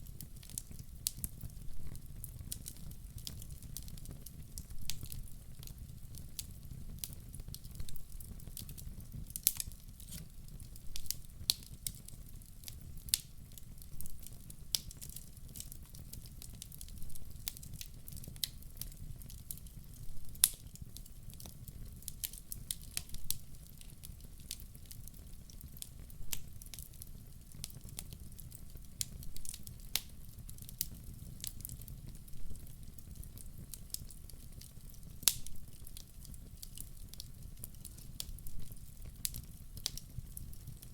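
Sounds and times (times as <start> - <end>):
low rumble of flames: 0.0 - 40.9
wood crackling and popping: 0.0 - 40.9.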